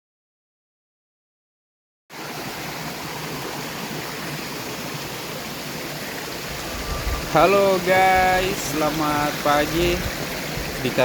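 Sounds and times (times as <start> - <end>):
running water rushing: 2.1 - 11.0.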